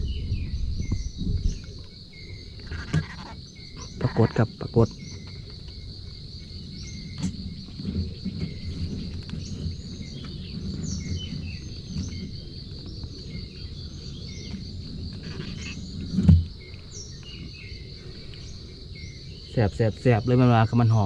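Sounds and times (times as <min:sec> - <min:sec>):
low rumbling handling noise: 0:00.0 - 0:19.2
bird chirps: 0:00.0 - 0:21.0
insects trilling: 0:00.0 - 0:21.0.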